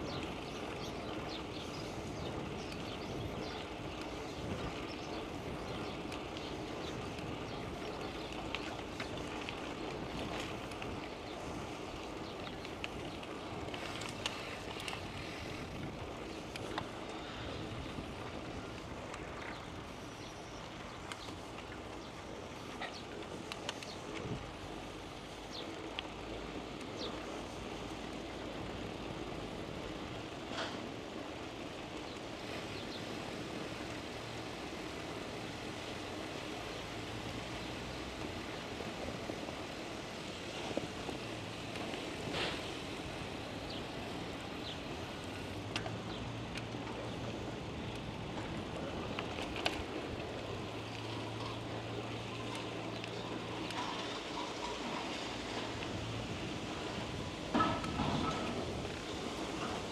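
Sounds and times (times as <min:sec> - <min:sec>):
bicycle rolling and wind noise: 0:00.0 - 0:59.9.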